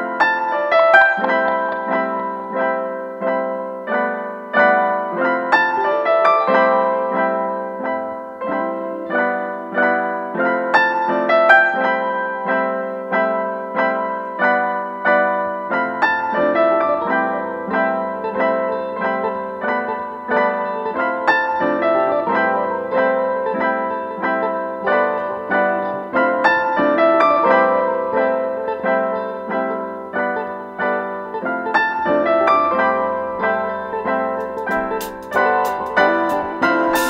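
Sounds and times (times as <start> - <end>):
piano repeated notes: 0.0 - 37.0.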